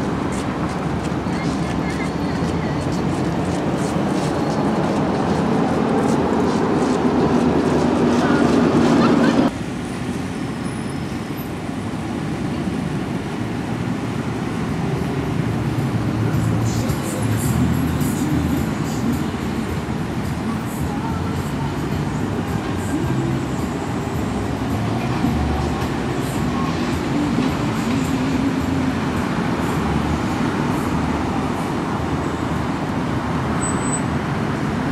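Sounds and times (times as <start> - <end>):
cars driving past: 0.0 - 34.9
road traffic rushing: 0.0 - 34.9.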